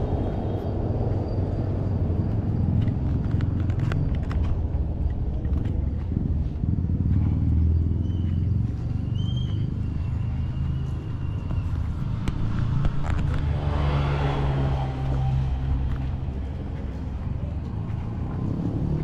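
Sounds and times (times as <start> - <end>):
vehicle rumbling along road: 0.0 - 19.0.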